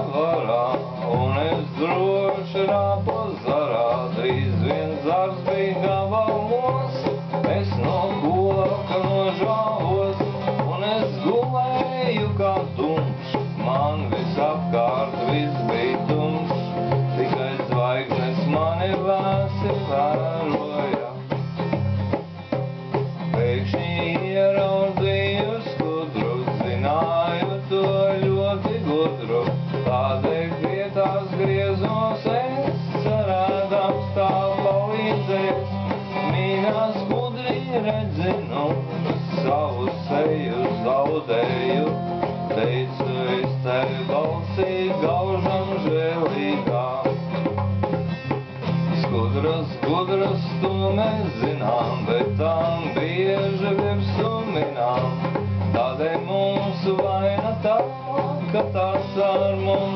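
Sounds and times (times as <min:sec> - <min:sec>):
guitar playing: 0:00.0 - 0:59.9.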